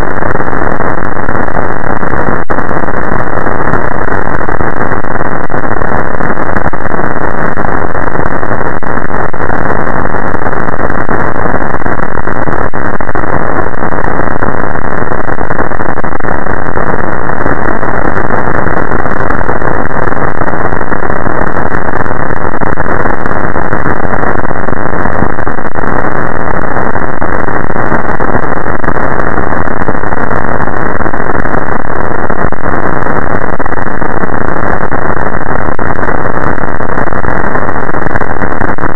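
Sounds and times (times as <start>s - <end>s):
loud muffled static noise: 0.0s - 38.9s.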